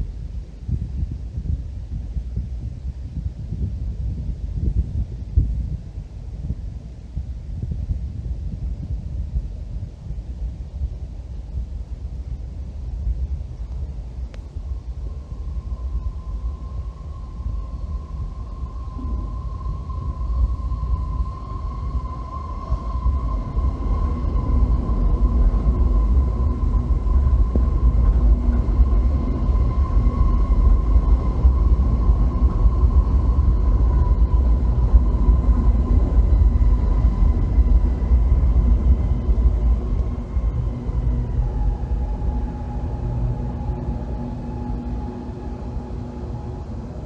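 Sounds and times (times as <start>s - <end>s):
train rumble with high whine: 0.0s - 47.0s.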